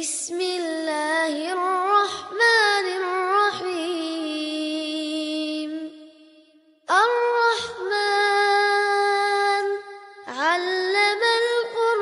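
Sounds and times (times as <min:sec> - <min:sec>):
melodic recitation by high voice: 0:00.0 - 0:12.0.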